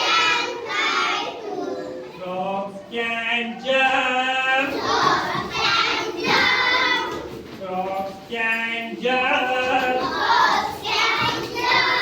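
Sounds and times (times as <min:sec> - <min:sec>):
children singing: 0:00.0 - 0:02.8, 0:03.4 - 0:07.5, 0:09.2 - 0:12.0.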